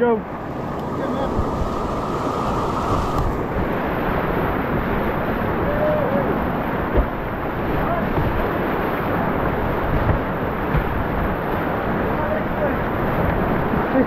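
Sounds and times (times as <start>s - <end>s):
whitewater roaring: 0.0s - 14.0s
wind buffeting microphone: 0.0s - 14.0s.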